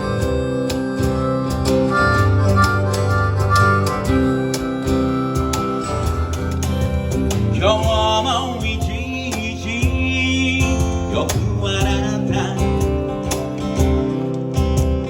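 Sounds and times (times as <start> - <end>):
live band music led by guitar: 0.0 - 15.0.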